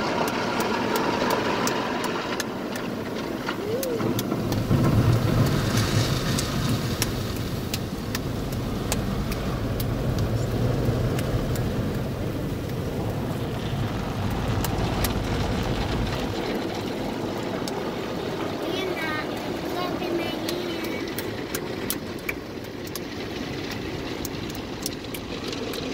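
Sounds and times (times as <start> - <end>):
car wash low rumble: 0.0 - 25.9
water spraying on windows: 0.0 - 25.9.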